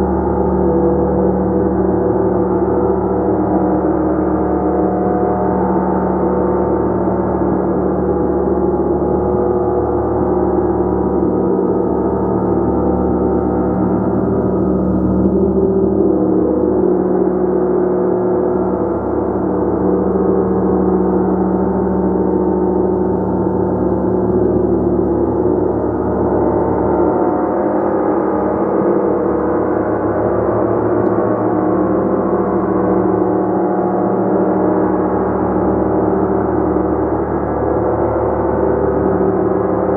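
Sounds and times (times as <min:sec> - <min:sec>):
gong sustained tones: 0:00.0 - 0:39.9.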